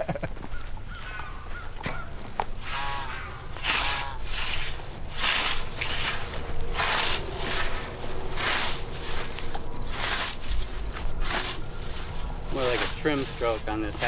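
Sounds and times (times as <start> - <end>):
bird calling: 0.0 - 14.0
scythe swishing through grass: 2.6 - 14.0.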